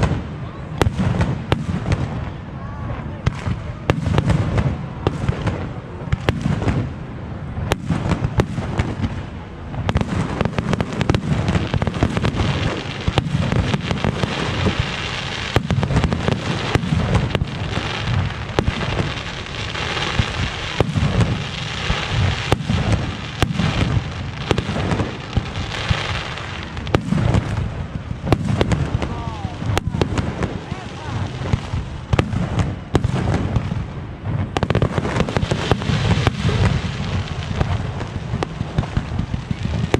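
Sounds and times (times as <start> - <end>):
fireworks bangs and booms: 0.0 - 39.9
fireworks crackling: 0.0 - 39.9.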